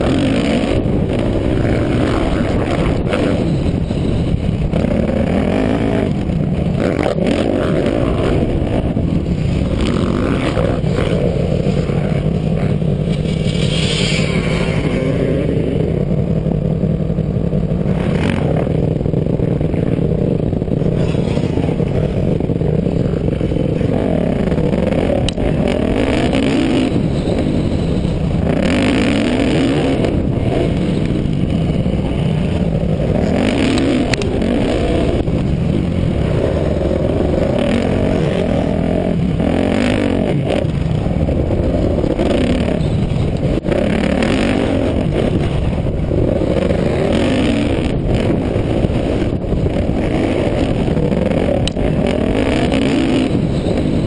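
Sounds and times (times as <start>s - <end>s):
dirt bike engine revving: 0.0s - 54.0s
wind noise on microphone: 0.0s - 54.0s.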